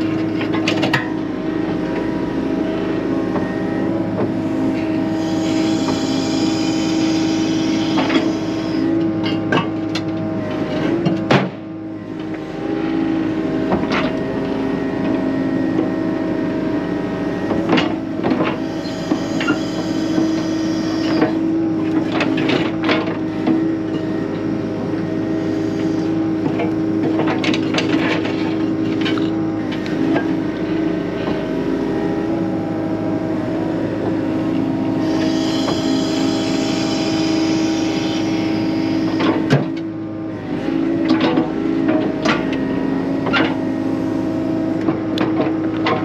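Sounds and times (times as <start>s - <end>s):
excavator engine running: 0.0s - 46.0s.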